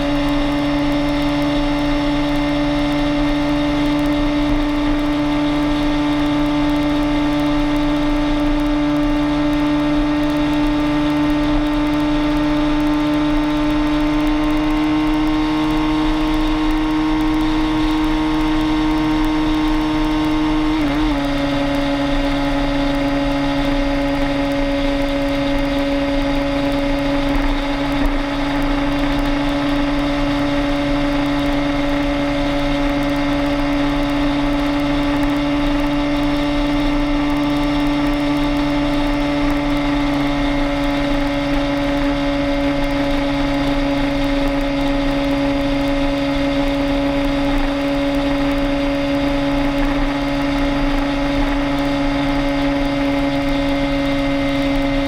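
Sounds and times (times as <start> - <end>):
vehicle engine hum: 0.0 - 55.0.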